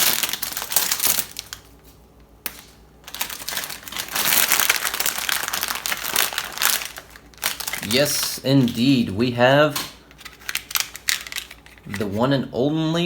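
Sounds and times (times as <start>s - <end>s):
plastic packaging crinkling: 0.0s - 12.3s.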